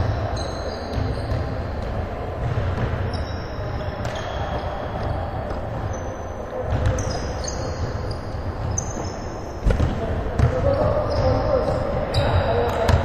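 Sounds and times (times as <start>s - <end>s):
sneakers squeaking: 0.0s - 13.0s.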